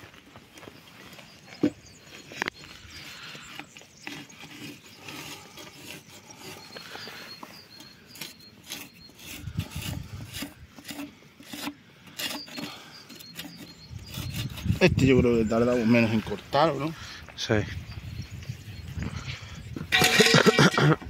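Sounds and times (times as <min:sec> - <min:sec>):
rubbing and scraping on wood: 0:00.0 - 0:17.2.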